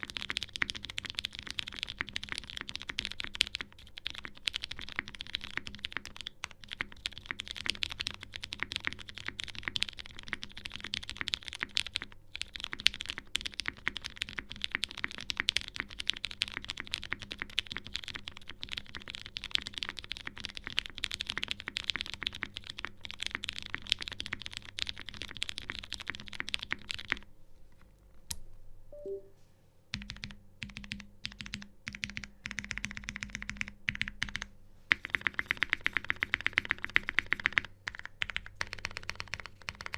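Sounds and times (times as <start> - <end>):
mechanical keyboard typing: 0.0 - 27.2, 30.0 - 39.9.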